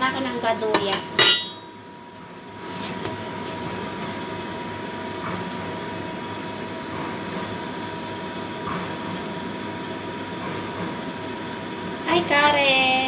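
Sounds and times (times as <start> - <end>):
appliance fan whirring: 0.0 - 13.0
constant hum tone: 0.0 - 13.0.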